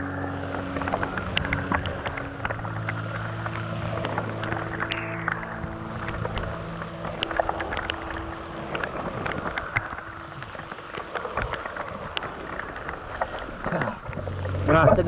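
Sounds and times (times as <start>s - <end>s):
water and rain rushing: 0.0s - 15.0s.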